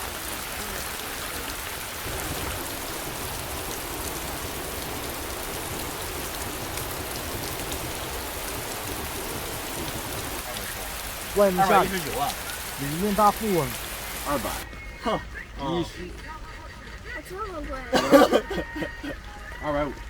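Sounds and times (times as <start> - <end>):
drops ticking: 0.0 - 20.0
heavy rain: 0.0 - 20.0.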